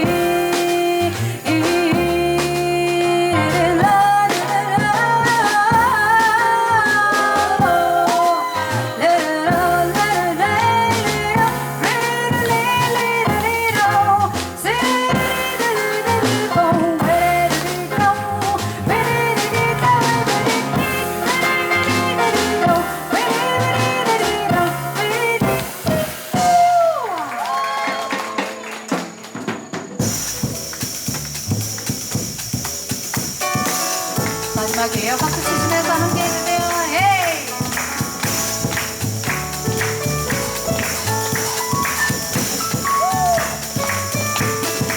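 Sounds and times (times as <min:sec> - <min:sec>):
double bass: 0:00.0 - 0:26.6, 0:30.0 - 0:44.9
steady high hiss: 0:00.0 - 0:26.9, 0:29.6 - 0:44.9
drum kit: 0:00.0 - 0:44.9
piano: 0:00.0 - 0:44.9.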